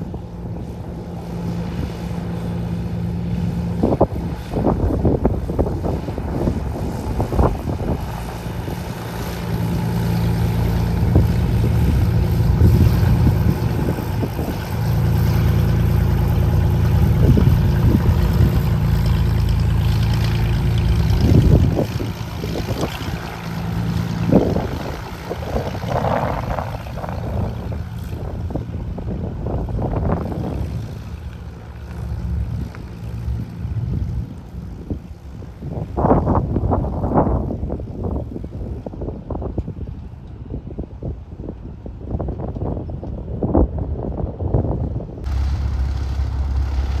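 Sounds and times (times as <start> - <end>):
propeller plane engine: 0.0 - 47.0.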